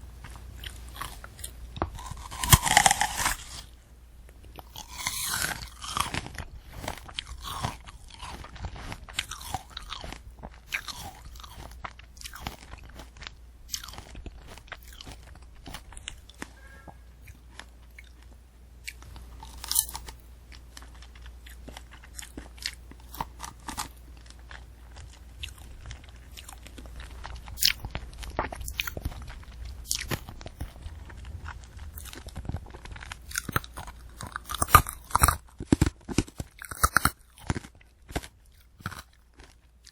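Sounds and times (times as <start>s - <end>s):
chewing crunchy candy apple: 0.0s - 39.9s.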